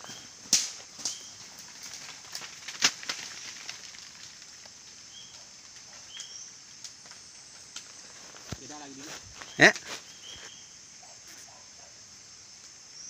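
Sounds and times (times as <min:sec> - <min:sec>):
twigs breaking: 0:00.0 - 0:10.6
rustling in undergrowth: 0:00.0 - 0:13.0
steady high hiss: 0:00.0 - 0:13.0.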